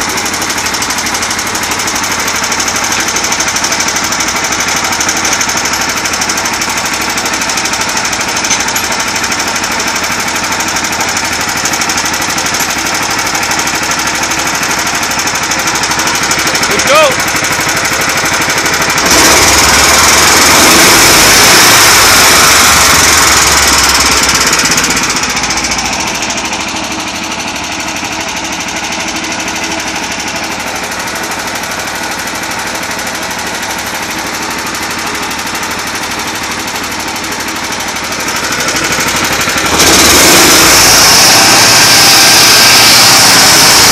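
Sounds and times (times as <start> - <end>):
heavy machinery running: 0.0 - 43.9.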